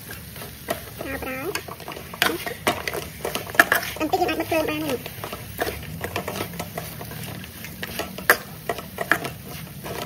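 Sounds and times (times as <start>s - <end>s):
metal ladle scraping a wok: 0.0s - 10.0s.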